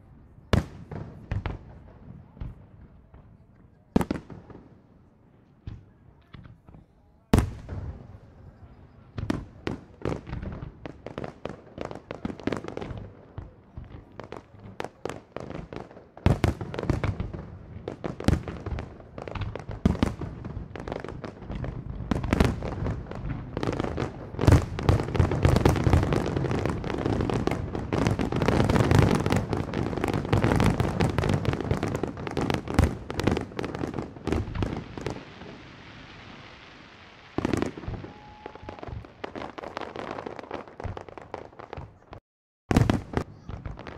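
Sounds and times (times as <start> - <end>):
fireworks bursting with bangs: 0.1 - 43.9.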